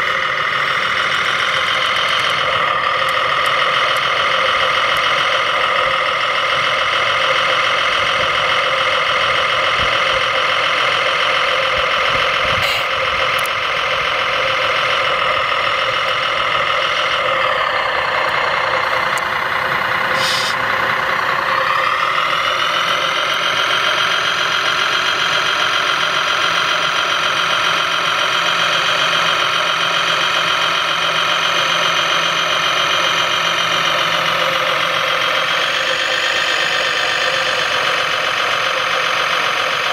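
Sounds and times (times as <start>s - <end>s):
model crane motor whine: 0.0s - 39.9s.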